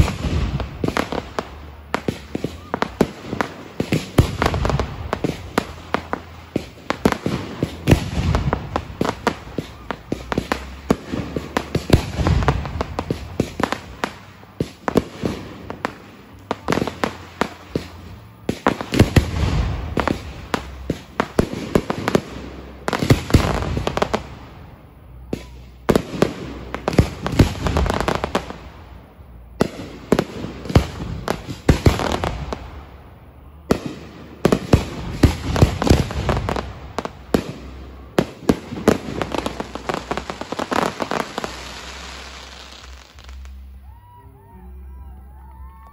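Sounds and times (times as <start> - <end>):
fireworks bangs and crackling: 0.0 - 44.2.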